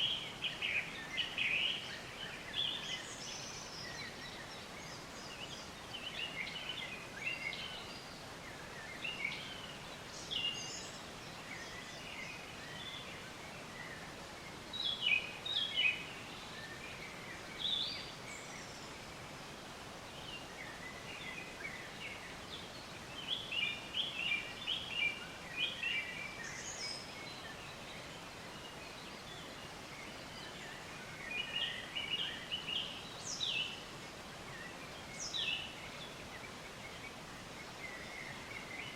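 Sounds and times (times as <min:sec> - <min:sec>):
birds chirping: 0:00.0 - 0:38.9
outdoor background hiss: 0:00.0 - 0:38.9.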